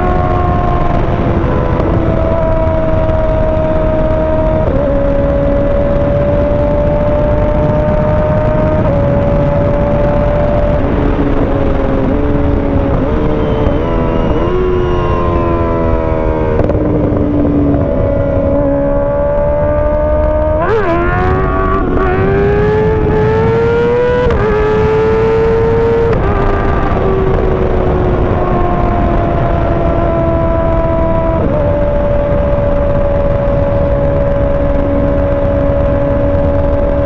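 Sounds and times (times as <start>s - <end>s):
motorcycle engine revving: 0.0s - 37.0s
wind rush on microphone: 0.0s - 37.0s.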